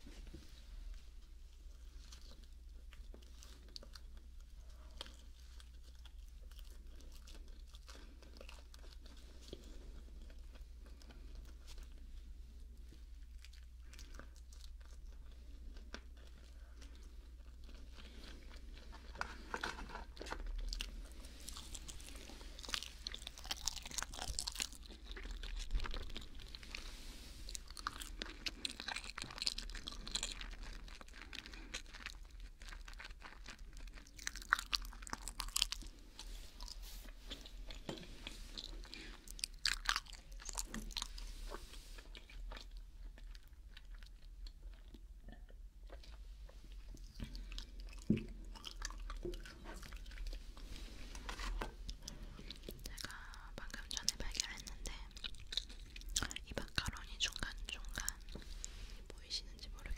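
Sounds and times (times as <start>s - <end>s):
person chewing food: 1.2s - 59.9s.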